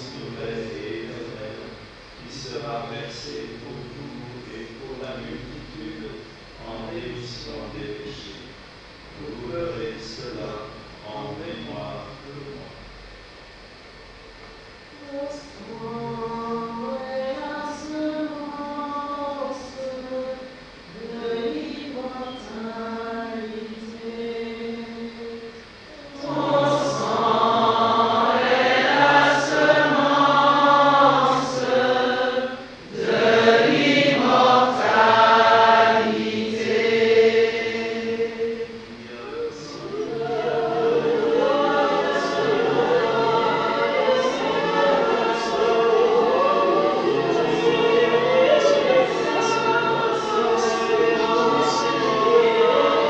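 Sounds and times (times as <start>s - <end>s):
group singing a hymn: 0.0s - 6.0s, 15.0s - 53.0s.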